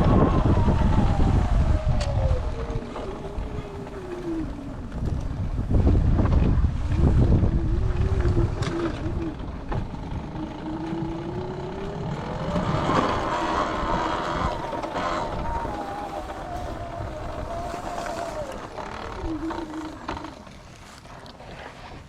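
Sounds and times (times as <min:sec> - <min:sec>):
electric dirt bike motor whining: 0:00.0 - 0:20.6
wind rumbling on microphone: 0:00.0 - 0:22.0.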